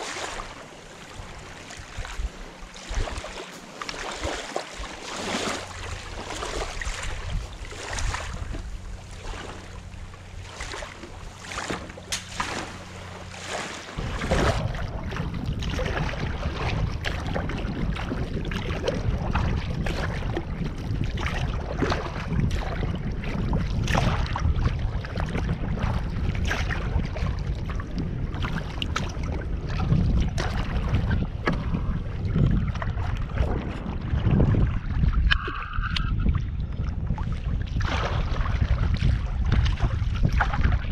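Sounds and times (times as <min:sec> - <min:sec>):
paddle splashing in water: 0:00.0 - 0:40.9
water slapping against hull: 0:00.0 - 0:40.9
wind rumbling on microphone: 0:00.0 - 0:40.9.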